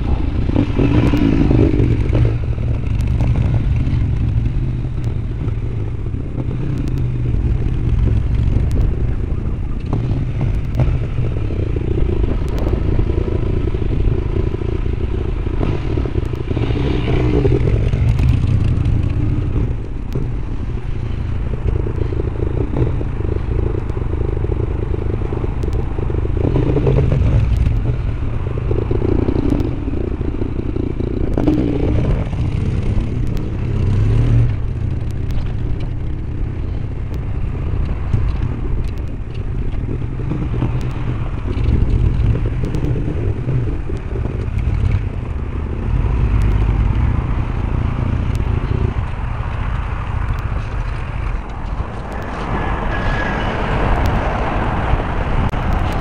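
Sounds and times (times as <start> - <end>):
motorcycle engines: 0.0 - 56.0
wind noise on microphone: 0.0 - 56.0.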